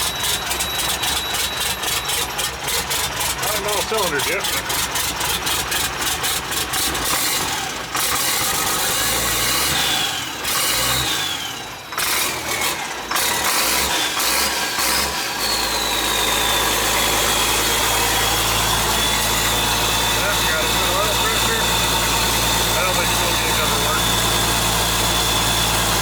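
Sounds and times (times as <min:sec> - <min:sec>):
diesel engine running rough: 0:00.0 - 0:26.0.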